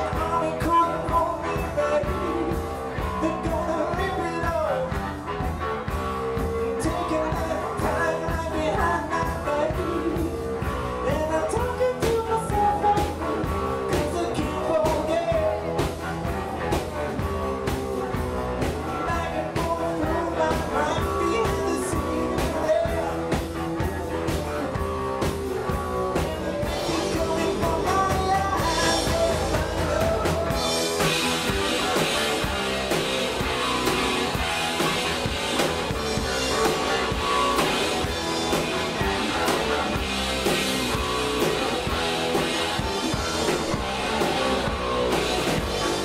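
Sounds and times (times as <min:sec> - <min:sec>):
drum beat: 0:00.0 - 0:46.0
live rock band playing: 0:00.0 - 0:46.0.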